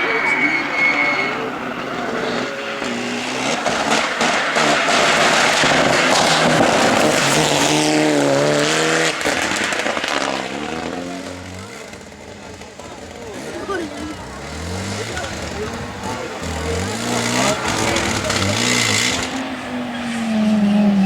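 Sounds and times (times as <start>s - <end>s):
rally car engine revving past: 0.0s - 21.0s.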